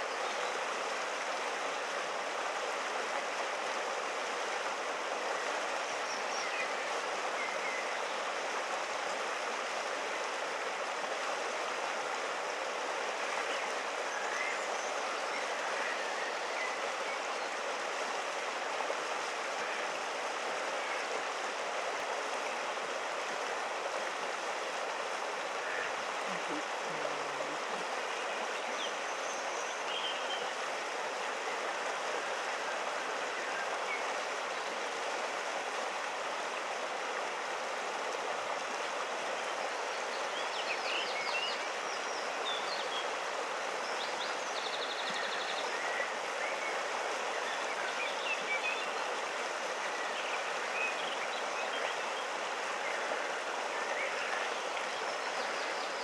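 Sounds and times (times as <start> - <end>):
river water flowing over rocks: 0.0 - 56.0.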